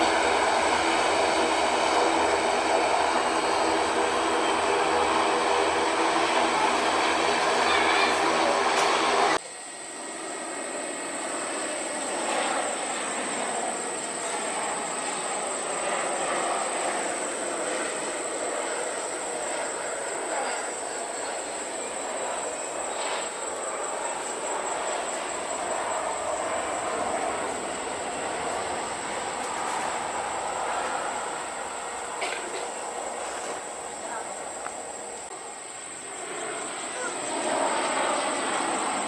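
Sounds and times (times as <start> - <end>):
jet engines running: 0.0 - 39.0.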